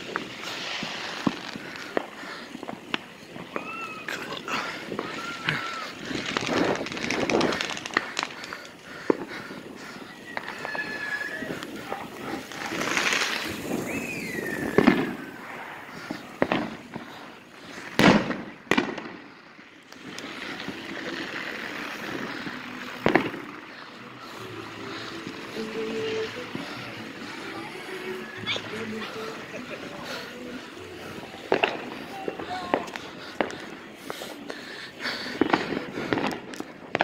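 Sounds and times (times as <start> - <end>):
fireworks bangs: 0.0 - 37.0.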